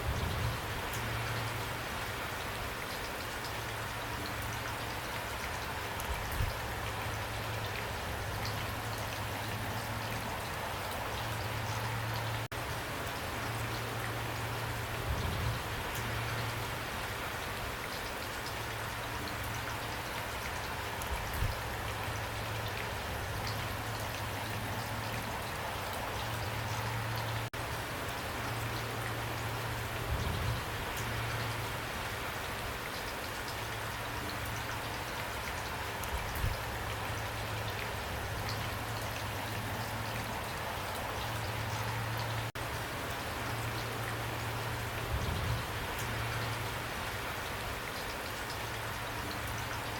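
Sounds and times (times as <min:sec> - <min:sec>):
pouring rain: 0:00.0 - 0:49.9.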